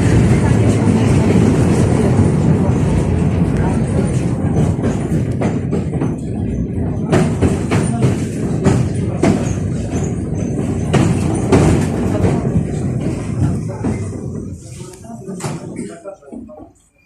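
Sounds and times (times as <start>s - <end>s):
wheels knocking and clattering: 0.0s - 14.7s
tram wheels rumbling on rail: 0.0s - 16.6s.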